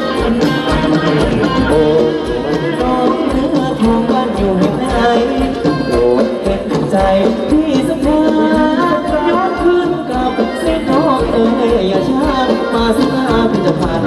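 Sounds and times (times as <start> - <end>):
live band dance music: 0.0 - 14.0
steady drum beat: 0.0 - 14.0.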